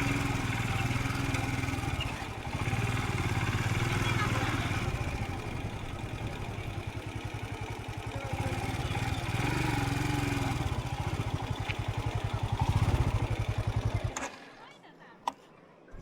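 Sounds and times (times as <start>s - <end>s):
single-cylinder engine running: 0.0s - 14.4s.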